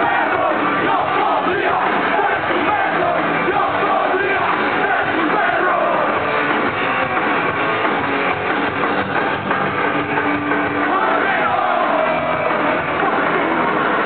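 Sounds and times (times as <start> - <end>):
drums: 0.0 - 14.0
electric guitars: 0.0 - 14.0.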